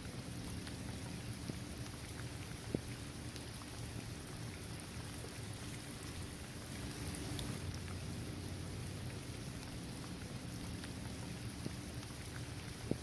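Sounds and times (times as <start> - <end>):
rain falling on hard surface: 0.0 - 13.0.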